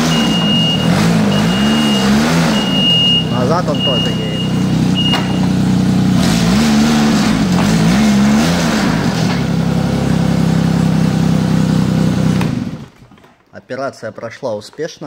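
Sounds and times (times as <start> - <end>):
snowmobile engine revving: 0.0 - 12.8.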